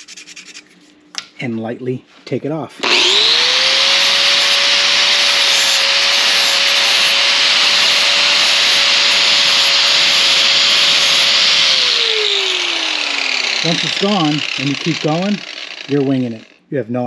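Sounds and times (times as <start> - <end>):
angle grinder sanding metal: 2.8 - 16.6.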